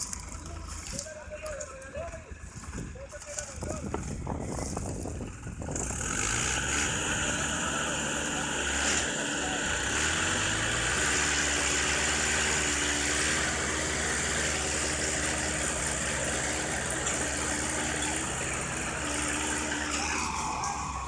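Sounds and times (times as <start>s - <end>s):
tractor diesel engines under load: 0.0s - 21.0s.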